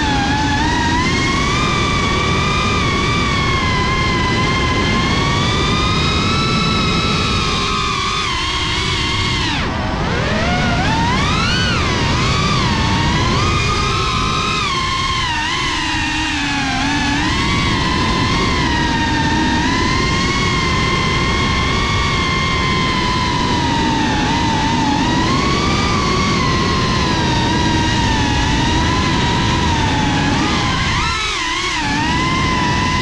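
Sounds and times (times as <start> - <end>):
drone motors whining: 0.0 - 33.0
propwash and wind rush: 0.0 - 33.0.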